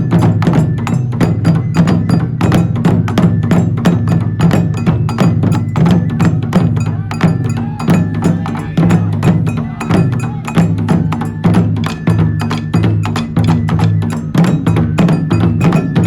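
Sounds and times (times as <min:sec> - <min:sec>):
fast steady percussion: 0:00.0 - 0:16.0.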